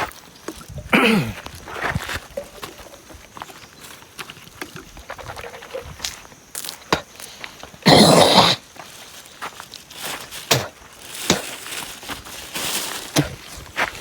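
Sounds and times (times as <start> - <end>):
footsteps on dry path: 0.0 - 7.9, 8.6 - 14.0.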